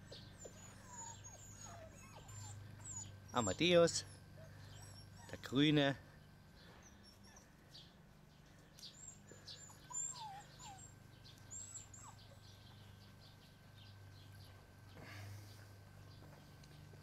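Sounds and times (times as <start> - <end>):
low steady hum: 0.0 - 17.0
small birds chirping: 0.0 - 17.0.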